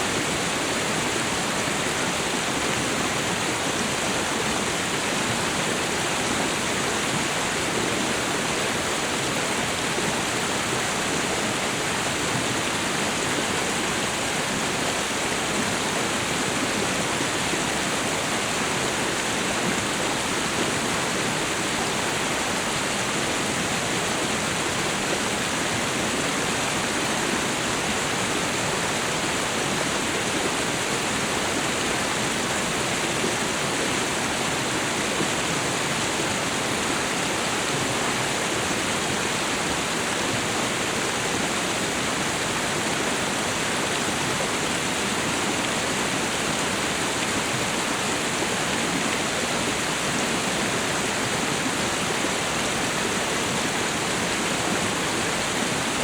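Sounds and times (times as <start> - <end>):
waterfall and river rushing: 0.0 - 56.0.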